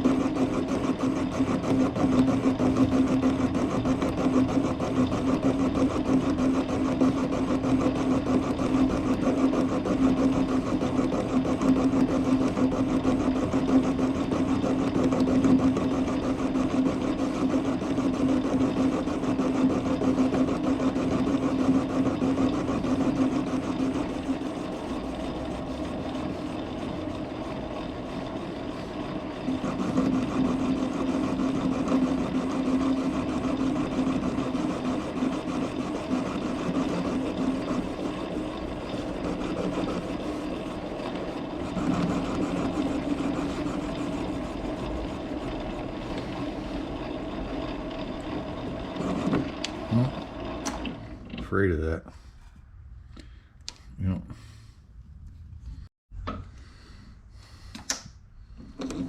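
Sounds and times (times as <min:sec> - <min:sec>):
metal lathe running: 0:00.0 - 0:51.4.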